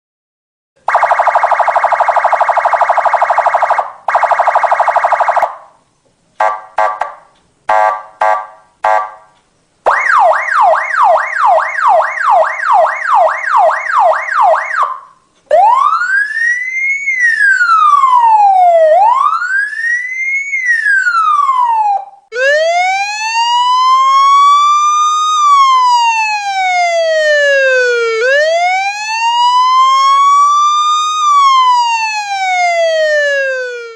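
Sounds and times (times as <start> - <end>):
police siren: 0.8 - 5.8, 9.9 - 33.9.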